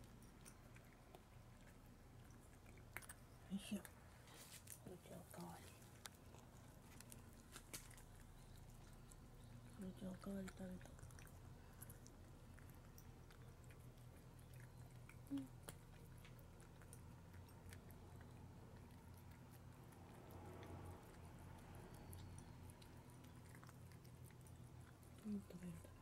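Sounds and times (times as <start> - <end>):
cat chewing wet food: 0.0 - 26.0.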